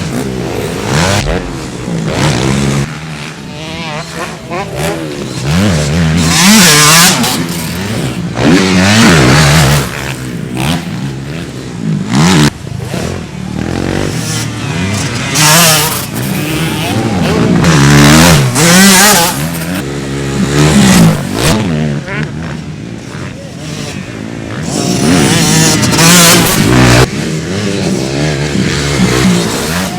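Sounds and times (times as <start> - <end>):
motocross bike engines revving: 0.0 - 29.9.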